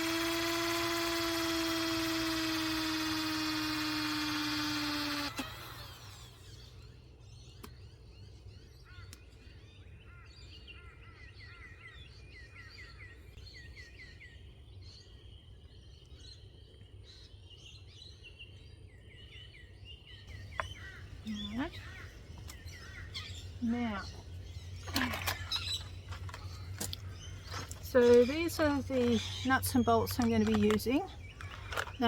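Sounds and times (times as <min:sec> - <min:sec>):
birds chirping: 0:00.0 - 0:32.0
low steady outdoor rumble: 0:00.0 - 0:32.0.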